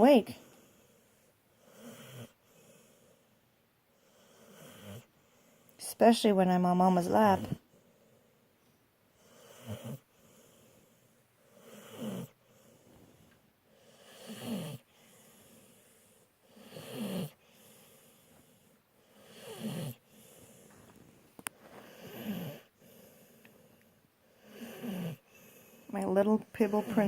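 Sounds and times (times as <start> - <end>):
dog snoring: 0.0 - 5.6, 9.2 - 27.0.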